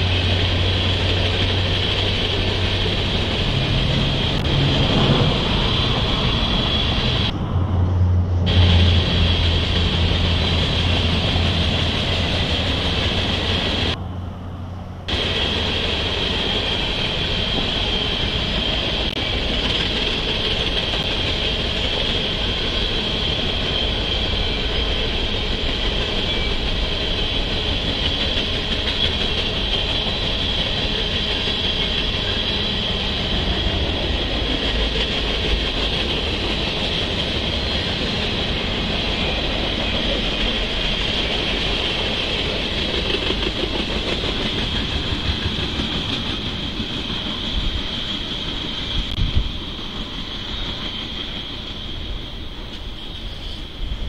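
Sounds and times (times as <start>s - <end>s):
freight train wheels on rail: 0.0s - 54.0s.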